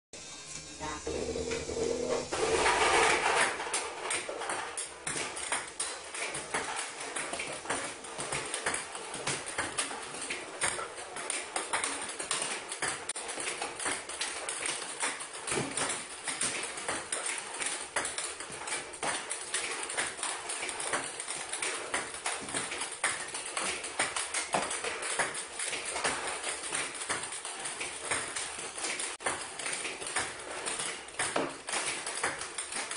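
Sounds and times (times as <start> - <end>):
ping-pong balls clicking and clacking: 0.2 - 32.9.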